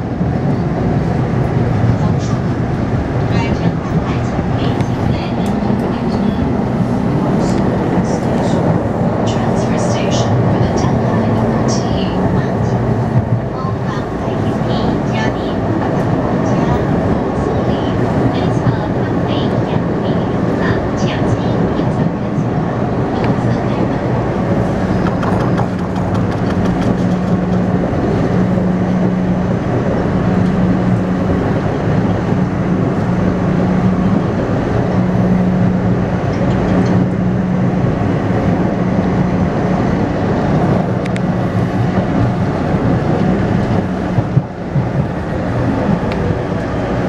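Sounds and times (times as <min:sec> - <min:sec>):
train wheel and rail rumble: 0:00.0 - 0:47.0.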